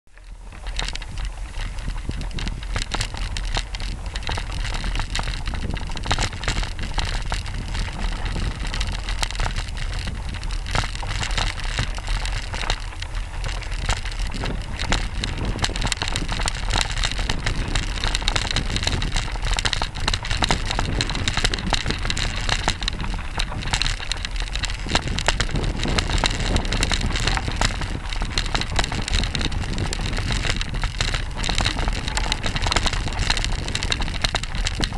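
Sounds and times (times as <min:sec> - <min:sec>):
bike tyres rattling on gravel: 0:00.1 - 0:34.9
wind buffeting microphone: 0:00.2 - 0:34.9.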